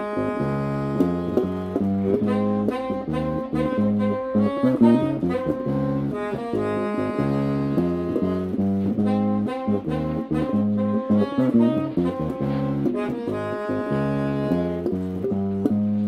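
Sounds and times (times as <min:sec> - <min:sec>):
jazzy music with saxophone: 0:00.0 - 0:16.0.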